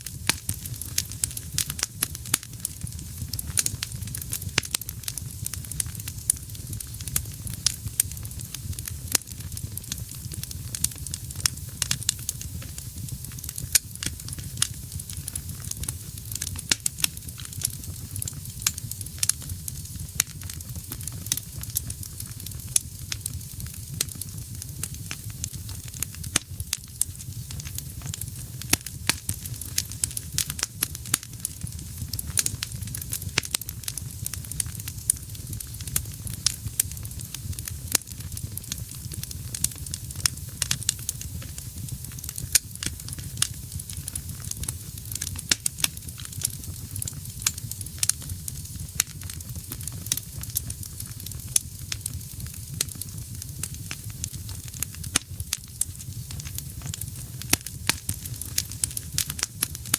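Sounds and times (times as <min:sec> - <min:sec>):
burning logs crackling: 0:00.0 - 0:59.9
low rumble of flames: 0:00.0 - 0:59.9.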